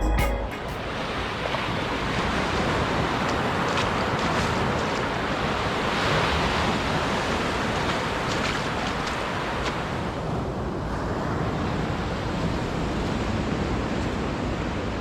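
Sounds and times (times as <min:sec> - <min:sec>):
waves washing onto beach: 0:00.9 - 0:15.0.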